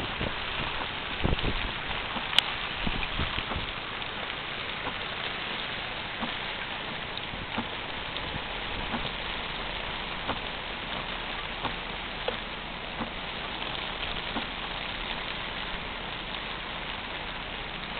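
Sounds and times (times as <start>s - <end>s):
steady rain hiss: 0.0s - 17.9s.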